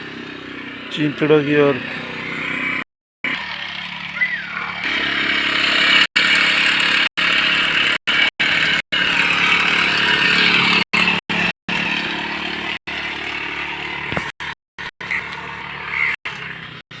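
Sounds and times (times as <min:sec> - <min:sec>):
engine-driven sprayer running: 0:00.0 - 0:17.0.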